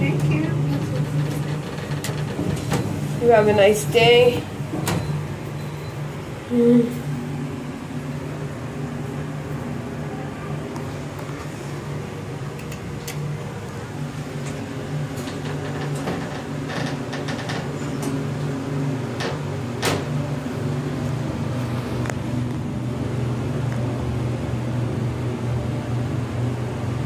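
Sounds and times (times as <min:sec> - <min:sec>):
elevator doors closing: 0:00.0 - 0:27.0
elevator humming: 0:00.0 - 0:27.0.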